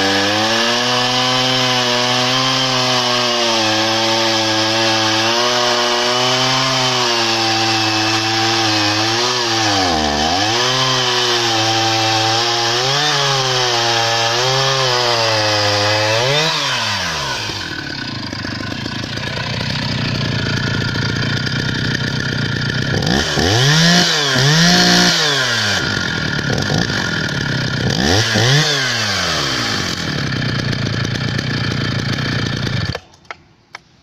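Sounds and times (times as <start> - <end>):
chainsaw cutting logs: 0.0 - 33.9.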